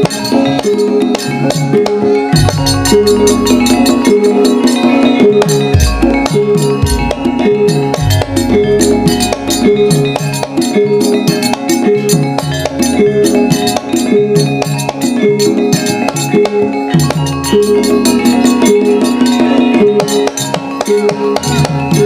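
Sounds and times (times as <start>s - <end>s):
metal keyed instruments melody: 0.0s - 22.0s.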